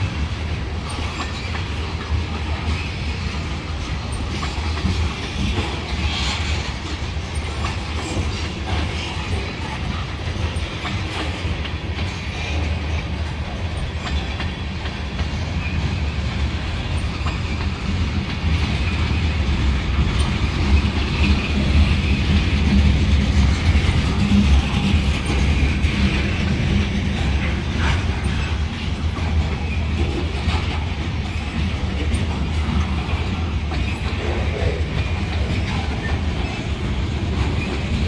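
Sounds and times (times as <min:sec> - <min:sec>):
clicks of wheels on rails: 0:00.0 - 0:38.0
freight train cars rolling past: 0:00.0 - 0:38.0.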